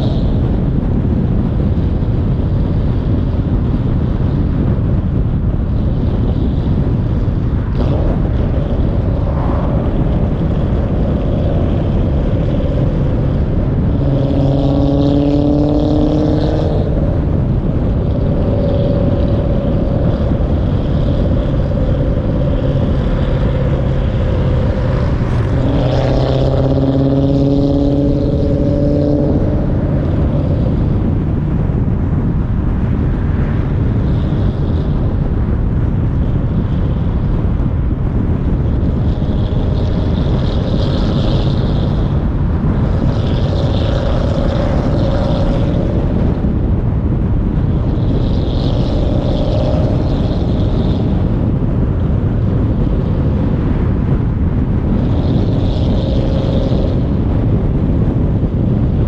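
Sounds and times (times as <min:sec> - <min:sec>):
car engine running: 0:00.0 - 0:59.0
wind rush: 0:00.0 - 0:59.0.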